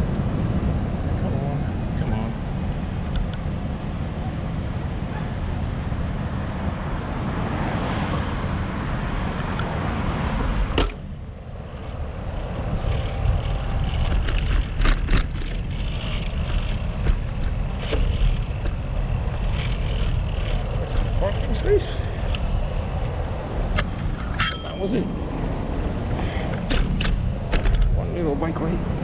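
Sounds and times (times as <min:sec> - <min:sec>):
bicycle riding rumble: 0:00.0 - 0:29.0
road traffic noise: 0:00.0 - 0:29.0.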